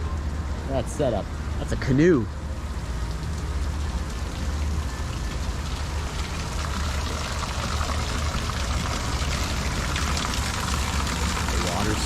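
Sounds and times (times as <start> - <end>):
water pouring and splashing: 1.7 - 12.0.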